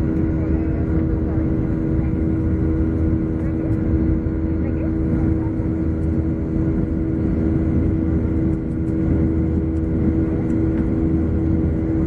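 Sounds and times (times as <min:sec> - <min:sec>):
airliner cabin roar: 0:00.0 - 0:12.0
steady hum: 0:00.0 - 0:12.0.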